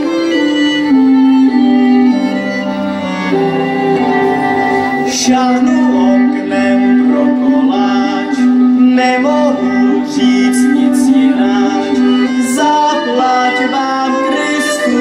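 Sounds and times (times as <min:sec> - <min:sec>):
fiddles: 0:00.0 - 0:15.0
folk carol singing: 0:00.0 - 0:15.0.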